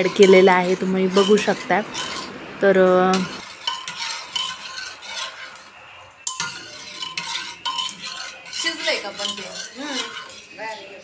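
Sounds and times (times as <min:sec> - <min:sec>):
metal spoon scraping a pot: 0:00.0 - 0:11.0.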